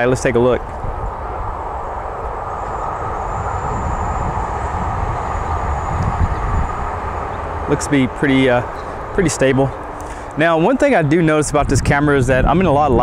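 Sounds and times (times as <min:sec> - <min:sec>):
faint high whine: 0:00.0 - 0:13.0
train wheels rumbling on rails: 0:00.0 - 0:13.0.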